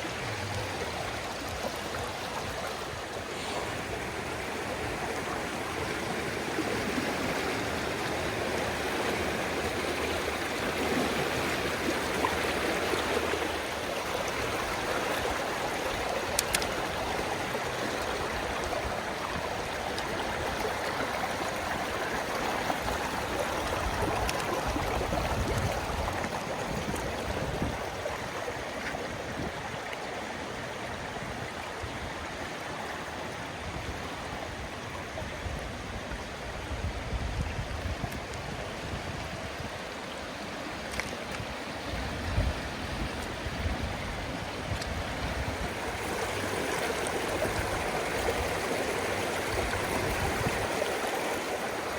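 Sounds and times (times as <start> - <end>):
floodwater rushing: 0.0 - 51.9.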